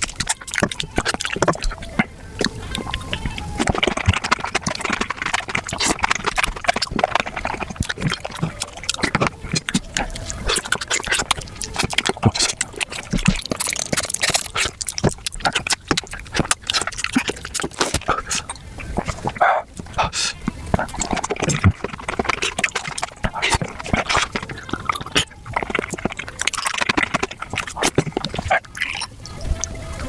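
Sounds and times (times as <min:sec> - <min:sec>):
wet smacking and chewing: 0:00.0 - 0:30.0.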